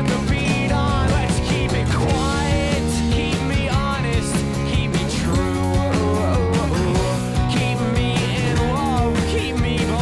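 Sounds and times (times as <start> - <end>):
rock song with guitar: 0.0 - 10.0.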